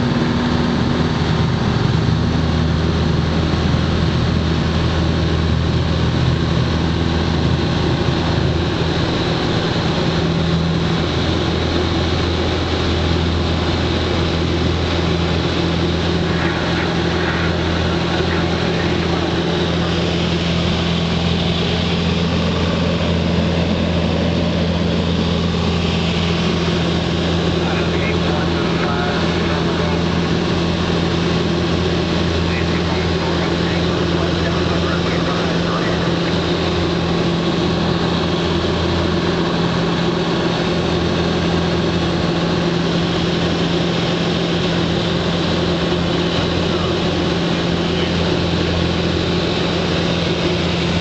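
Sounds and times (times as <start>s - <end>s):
aircraft engine drone in cabin: 0.0s - 51.0s.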